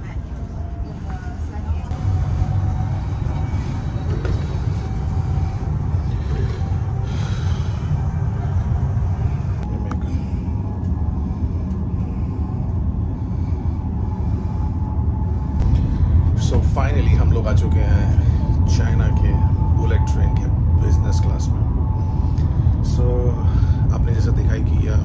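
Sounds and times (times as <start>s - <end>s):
faint steady hum: 0.0s - 25.0s
train rumble inside carriage: 0.0s - 25.0s.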